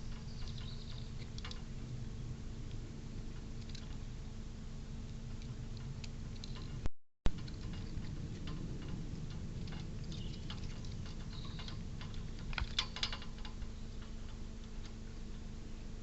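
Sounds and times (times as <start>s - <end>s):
squirrel clicking and scratching: 0.0s - 15.5s
low electrical hum: 0.0s - 16.0s.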